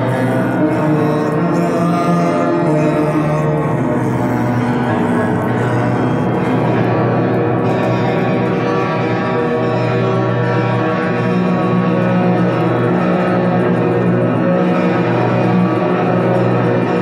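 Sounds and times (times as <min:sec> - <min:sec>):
dark ambient drone music: 0:00.0 - 0:17.0.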